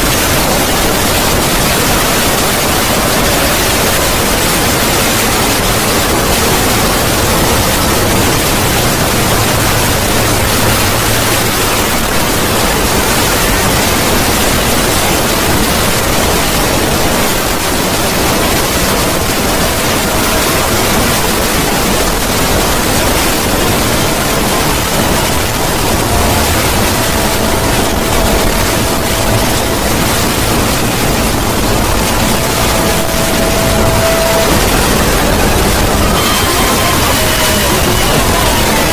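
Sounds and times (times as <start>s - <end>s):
harsh distorted static noise: 0.0s - 38.9s.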